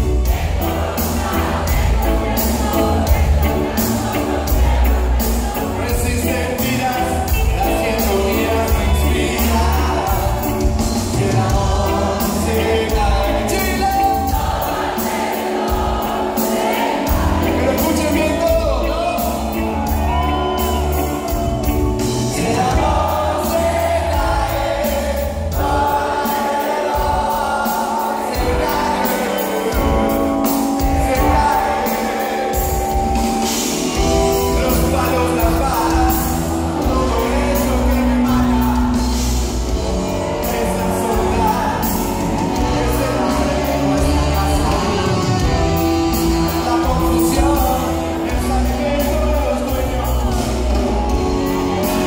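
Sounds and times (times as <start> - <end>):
lead singer singing: 0.0 - 52.0
live reggae band: 0.0 - 52.0.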